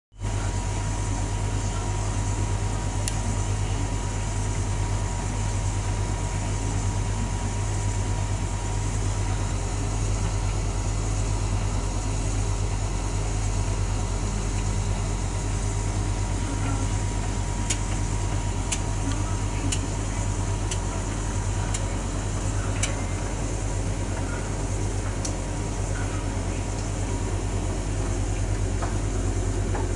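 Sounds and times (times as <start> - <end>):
tumble dryer humming: 0.2 - 29.9.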